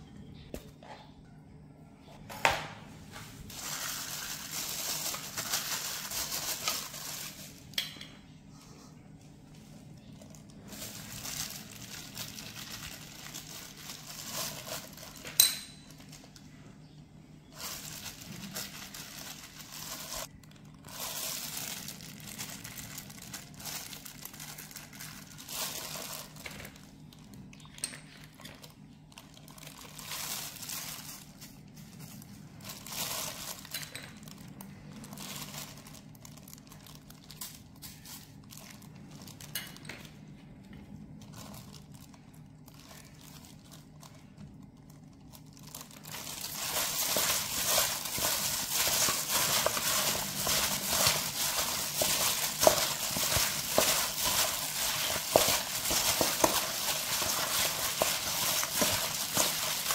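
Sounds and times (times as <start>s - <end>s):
plastic glove crinkling: 3.1s - 7.8s, 9.3s - 16.8s, 17.4s - 59.9s.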